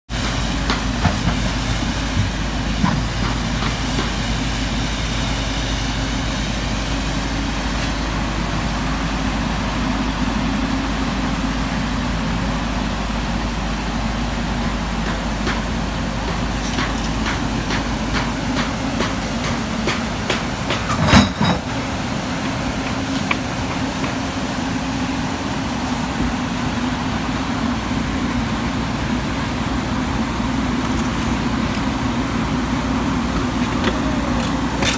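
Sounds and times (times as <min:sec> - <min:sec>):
excavator diesel engine rumbling: 0:00.1 - 0:34.9.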